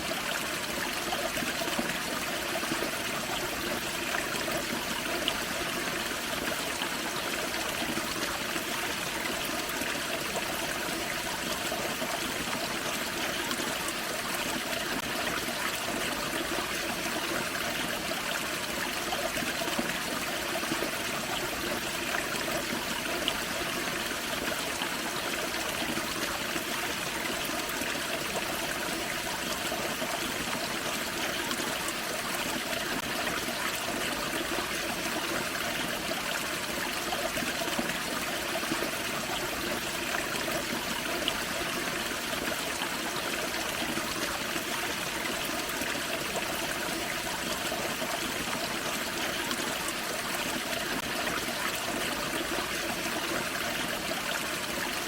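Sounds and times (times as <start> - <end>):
waterfall and creek running: 0.0 - 55.0.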